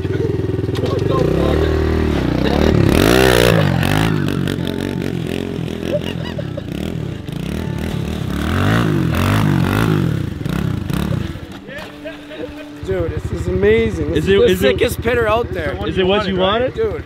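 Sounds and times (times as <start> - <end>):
pit bike engine revving: 0.0 - 17.0.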